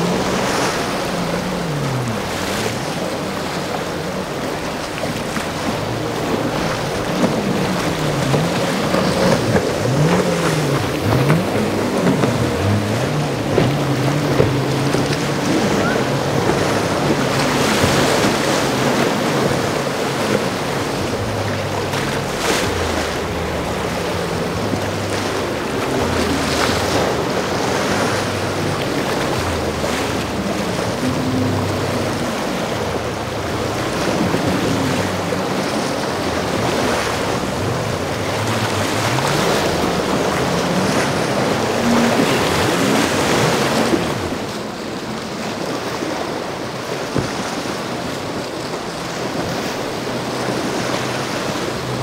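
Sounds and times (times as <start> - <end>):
boat engines running: 0.0 - 52.0
waves breaking: 0.0 - 52.0.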